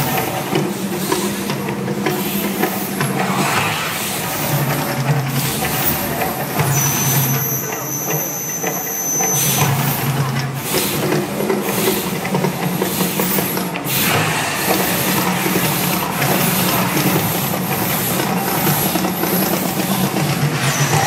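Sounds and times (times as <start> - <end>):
gas flame jets blasting: 0.0 - 21.0.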